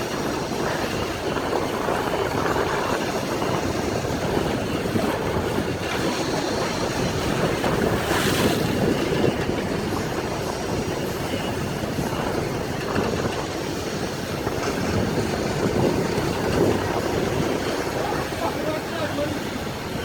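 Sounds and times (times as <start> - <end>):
boat engine: 0.0 - 20.0
water along hull: 0.0 - 20.0
wind on microphone: 0.0 - 20.0.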